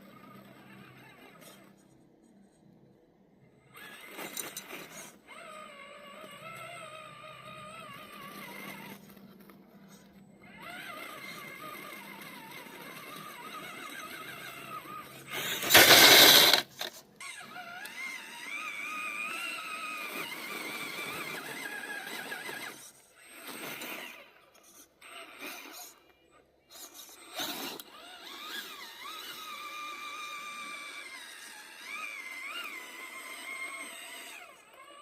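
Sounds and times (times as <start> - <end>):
electric motor and gearbox whining: 0.0 - 2.6, 3.7 - 35.0.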